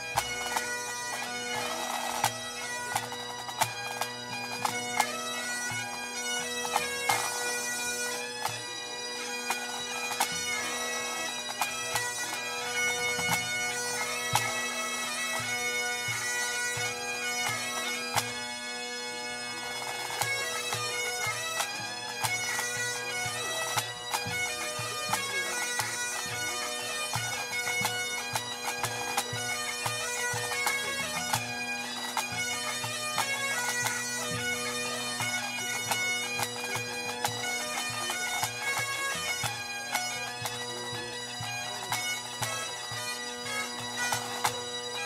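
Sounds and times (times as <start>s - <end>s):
bagpipes playing: 0.0s - 45.0s.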